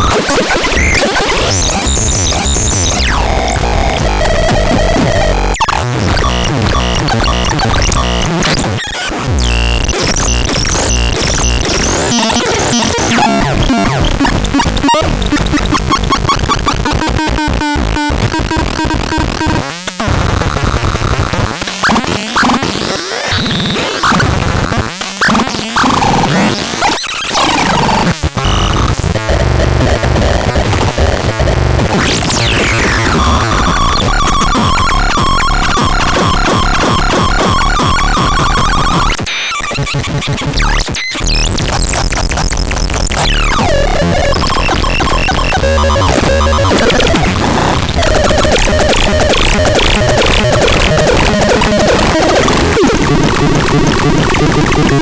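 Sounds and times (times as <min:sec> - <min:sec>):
glitchy stuttering tones: 0:00.0 - 0:20.7, 0:25.2 - 0:55.0
harsh electronic noise: 0:00.0 - 0:55.0.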